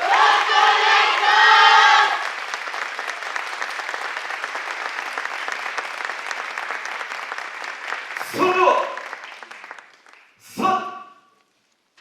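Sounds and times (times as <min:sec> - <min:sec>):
audience applause: 0:00.0 - 0:10.4.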